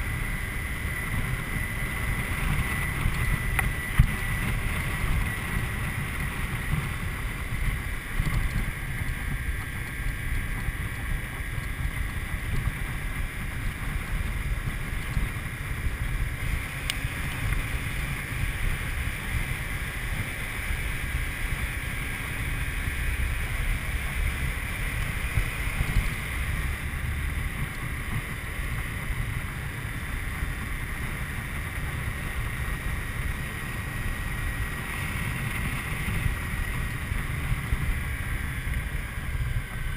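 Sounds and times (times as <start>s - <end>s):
motorcycle engine running: 0.0s - 39.9s
steady high whine: 0.0s - 39.9s
wind buffeting microphone: 0.0s - 39.9s.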